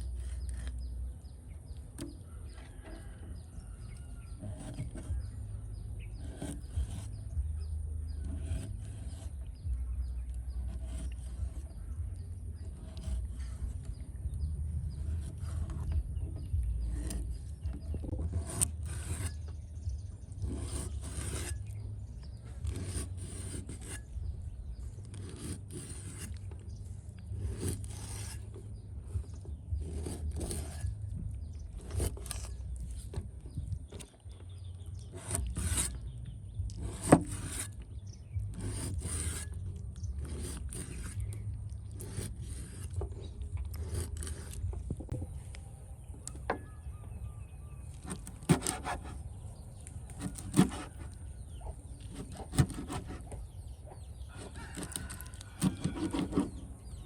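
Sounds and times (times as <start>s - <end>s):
scraping strokes: 0.0s - 1.0s, 1.7s - 45.6s, 47.9s - 53.5s, 54.2s - 57.0s
low steady rumble: 0.0s - 57.0s.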